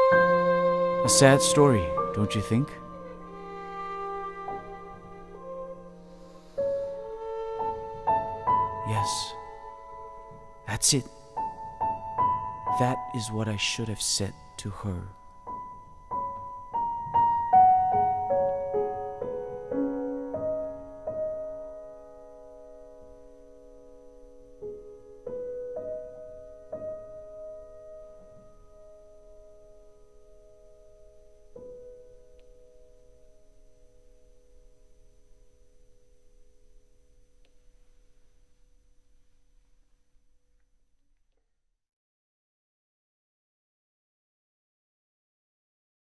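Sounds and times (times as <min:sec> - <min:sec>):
slow piano notes: 0:00.0 - 0:38.2.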